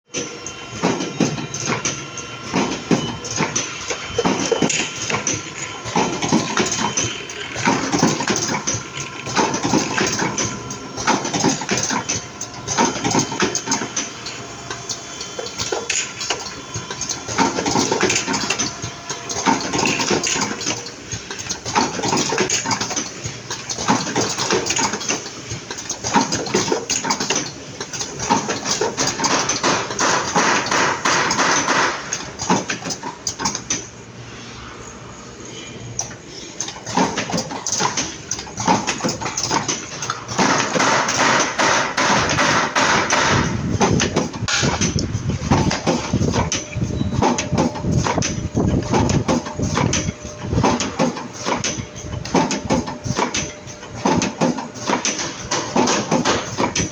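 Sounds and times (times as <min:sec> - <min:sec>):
cartoning machine clattering: 0:00.1 - 0:33.9, 0:36.0 - 0:56.9.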